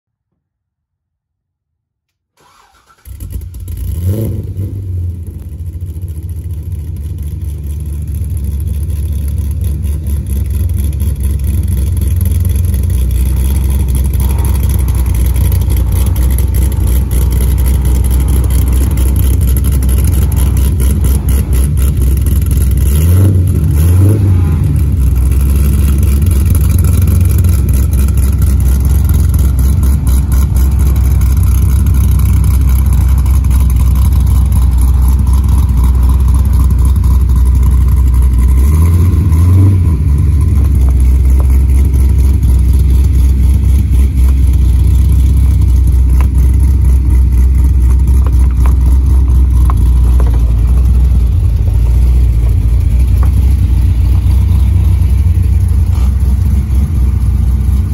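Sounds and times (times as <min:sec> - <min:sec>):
car engine starting and idling: 0:02.4 - 0:57.9
engine throttle blips: 0:02.4 - 0:57.9.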